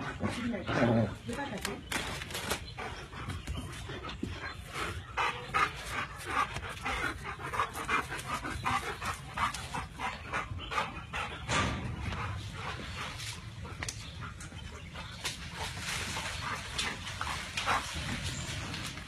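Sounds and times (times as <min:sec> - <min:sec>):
dog panting: 0:02.8 - 0:18.5.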